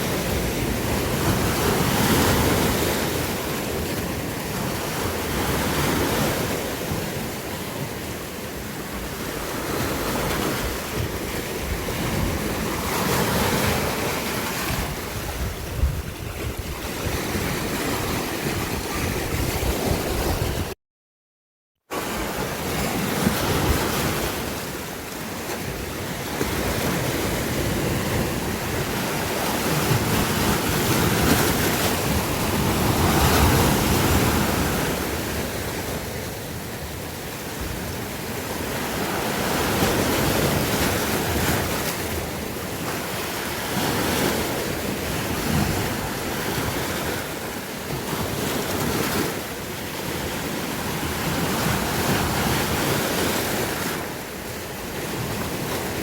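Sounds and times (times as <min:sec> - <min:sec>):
sea waves washing on shore: 0:00.0 - 0:20.8, 0:21.9 - 0:56.0.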